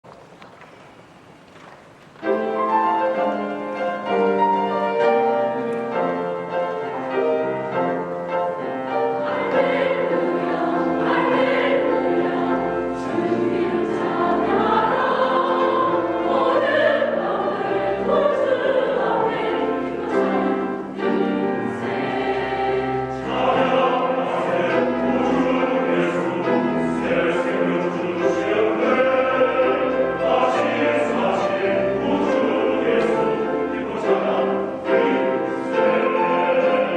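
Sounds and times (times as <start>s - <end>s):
church choir singing: 2.2s - 36.9s.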